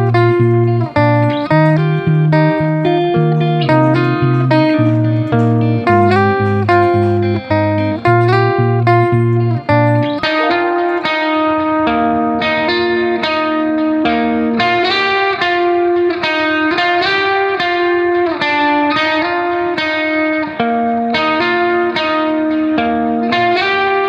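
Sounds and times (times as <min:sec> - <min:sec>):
guitar melody: 0:00.0 - 0:24.0.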